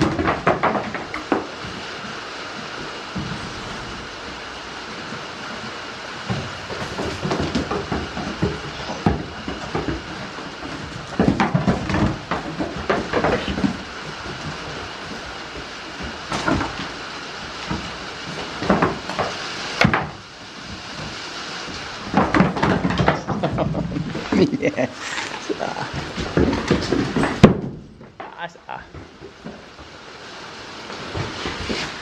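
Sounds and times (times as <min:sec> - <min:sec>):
goats knocking plastic bucket: 0:00.0 - 0:02.2, 0:04.9 - 0:29.9, 0:30.9 - 0:32.0
rain hissing: 0:00.0 - 0:32.0.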